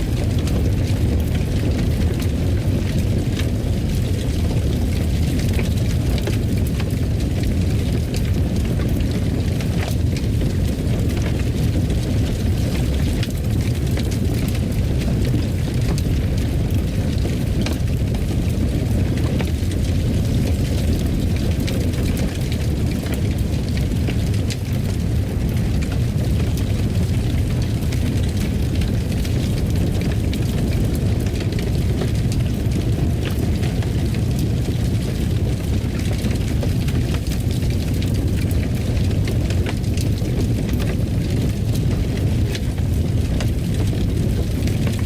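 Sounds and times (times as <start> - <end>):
fire crackling and popping: 0.0 - 45.0
fire rumbling in fireplace: 0.0 - 45.0.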